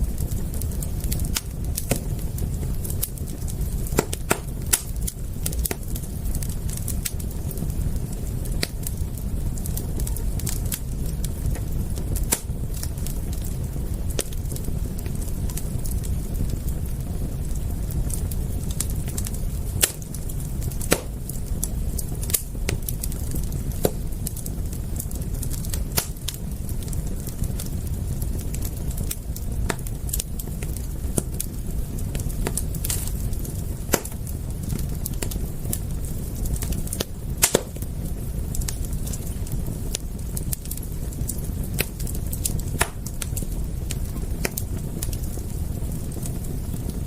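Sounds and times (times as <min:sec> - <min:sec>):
campfire crackling: 0:00.0 - 0:47.0
sharp pops and ticks of fire: 0:00.0 - 0:47.0.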